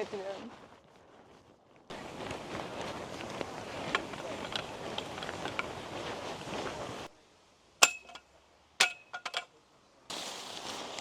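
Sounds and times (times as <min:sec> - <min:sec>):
outdoor noise: 0:00.0 - 0:11.0.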